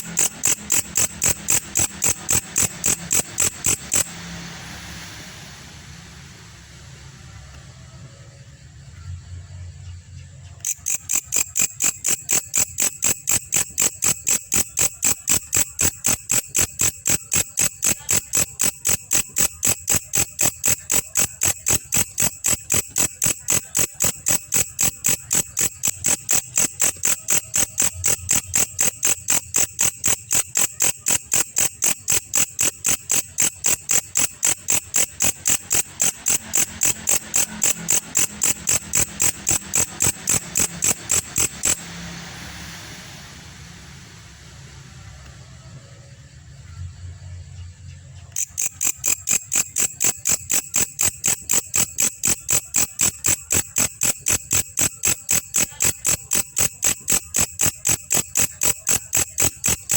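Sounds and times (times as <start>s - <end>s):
grasshopper chirping: 0.0s - 7.4s, 10.5s - 45.5s, 48.3s - 59.9s.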